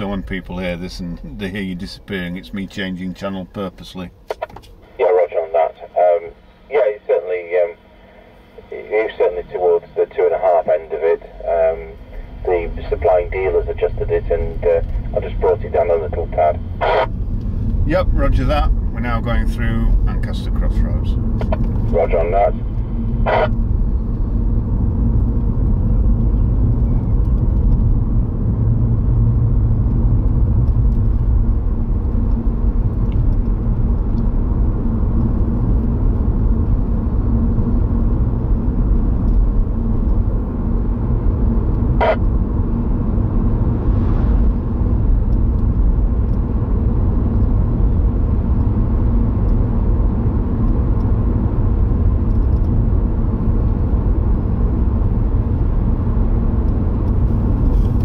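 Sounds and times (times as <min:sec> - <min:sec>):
car interior road and engine rumble: 0:00.0 - 0:58.0.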